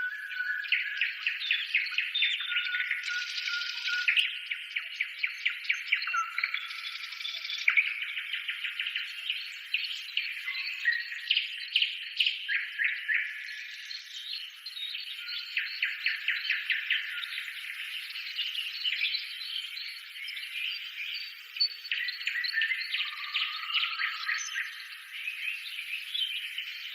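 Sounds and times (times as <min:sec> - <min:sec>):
birds chirping and twittering: 0:00.0 - 0:26.9.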